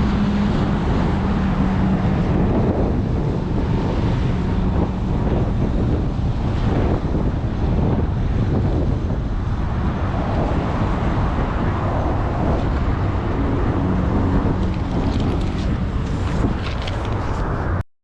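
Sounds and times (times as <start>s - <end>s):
wind buffeting microphone: 0.0s - 17.8s.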